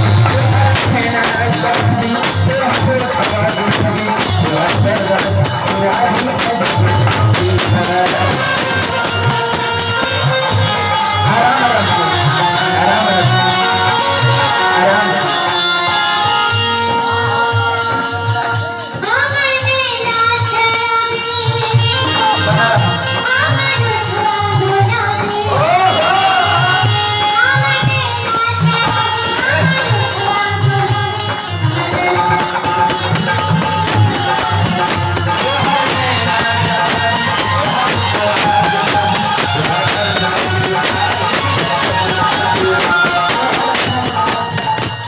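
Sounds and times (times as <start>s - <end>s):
jingling percussion: 0.0s - 45.0s
keyboard holding long notes: 0.0s - 45.0s
person singing ornamented vocals: 0.0s - 45.0s
steady drum beat: 0.0s - 45.0s.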